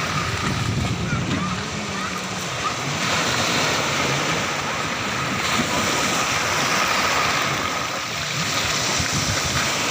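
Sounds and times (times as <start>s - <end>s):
sea surf washing on shore: 0.0s - 9.9s.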